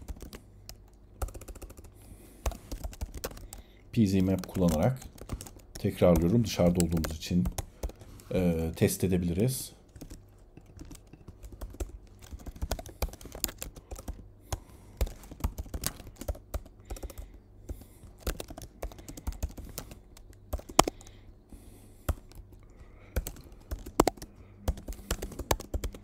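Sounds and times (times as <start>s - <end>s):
typing on computer keyboard: 0.0s - 8.1s, 9.9s - 21.3s, 22.0s - 26.0s.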